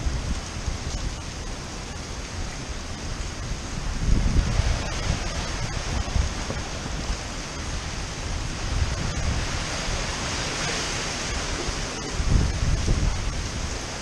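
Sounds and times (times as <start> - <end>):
heavy surf: 0.0 - 14.0
wind buffeting microphone: 0.0 - 14.0
wind gusting: 0.0 - 14.0.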